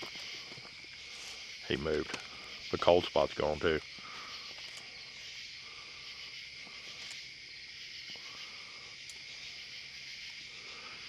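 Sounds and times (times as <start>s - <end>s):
crickets and insects trilling: 0.0s - 11.0s.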